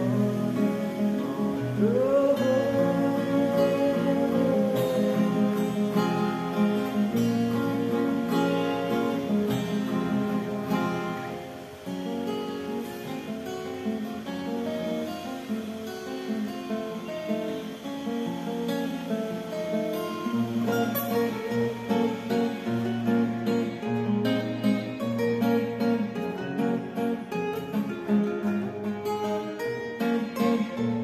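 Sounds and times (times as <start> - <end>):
acoustic guitars plucked: 0.0 - 31.0.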